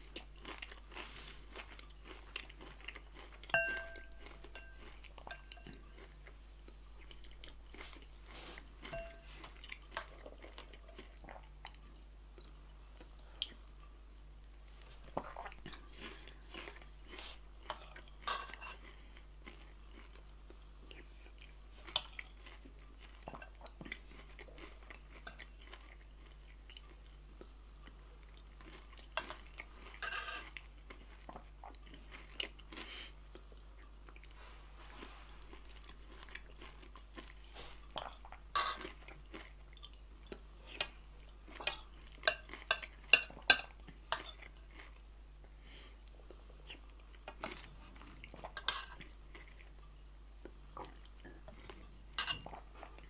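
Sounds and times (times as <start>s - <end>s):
person chewing and crunching food: 0.0s - 53.0s.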